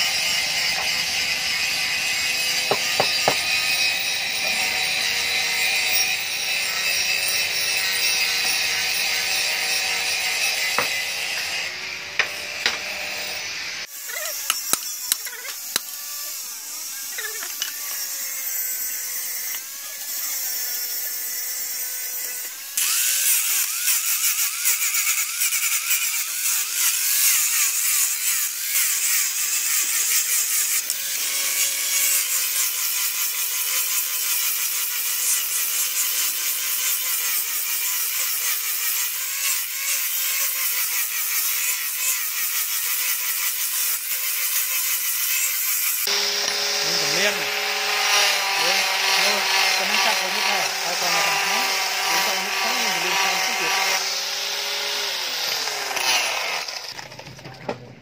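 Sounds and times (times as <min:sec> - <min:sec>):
angle grinder sanding wood: 0:00.0 - 0:57.1.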